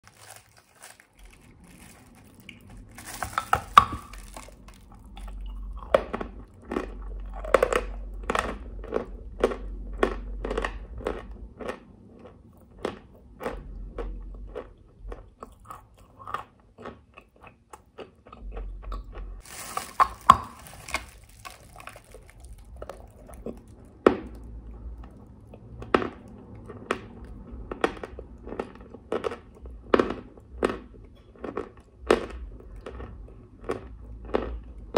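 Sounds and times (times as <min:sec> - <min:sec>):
crisp chewing crunches: 0:00.0 - 0:34.9.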